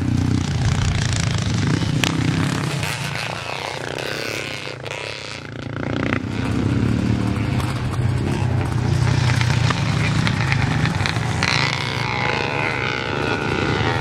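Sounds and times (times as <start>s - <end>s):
dirt bike engines running: 0.0s - 14.0s.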